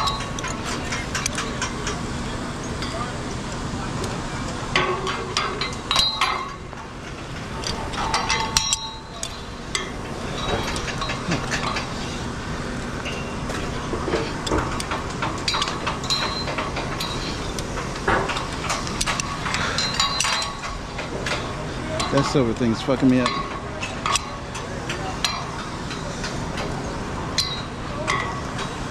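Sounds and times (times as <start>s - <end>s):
hardware clinking on metal tubes: 0.0s - 28.9s
steady background noise: 0.0s - 28.9s.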